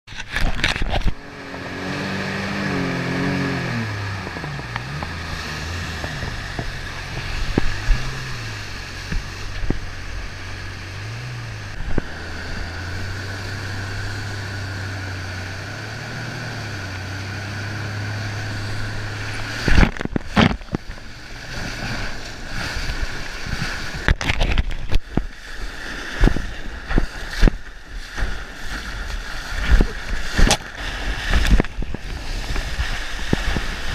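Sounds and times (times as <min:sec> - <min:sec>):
jet ski engine: 0:00.1 - 0:33.9
water splashing on camera: 0:00.1 - 0:33.9
rushing whitewater: 0:00.2 - 0:33.9.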